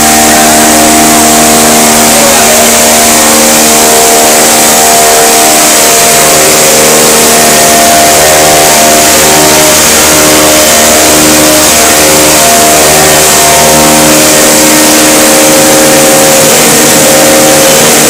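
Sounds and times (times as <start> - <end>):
humming motors: 0.0 - 18.0
machinery running: 0.0 - 18.0.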